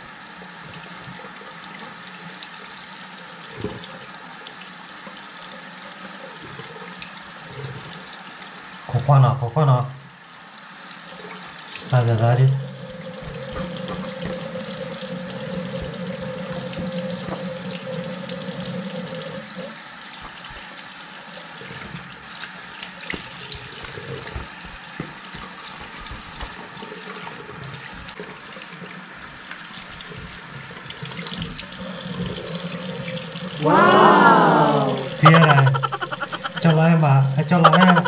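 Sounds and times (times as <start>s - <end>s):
water running from a tap: 0.0s - 33.6s.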